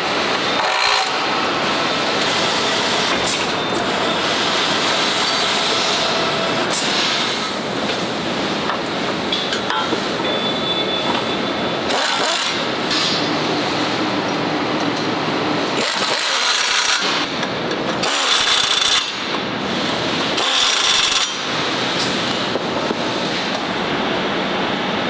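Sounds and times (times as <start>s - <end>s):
factory floor din: 0.0s - 25.0s.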